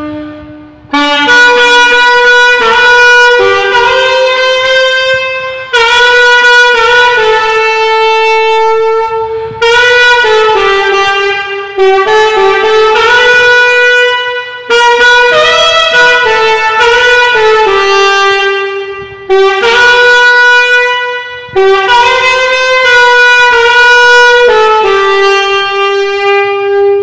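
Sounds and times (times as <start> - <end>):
alto saxophone melody: 0.0 - 27.0.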